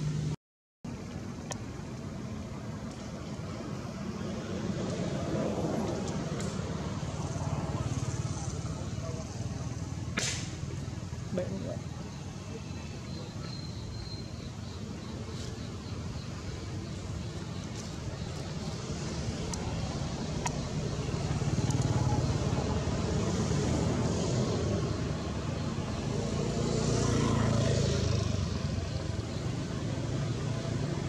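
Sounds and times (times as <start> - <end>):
passing motor vehicles rumble: 0.0 - 31.0.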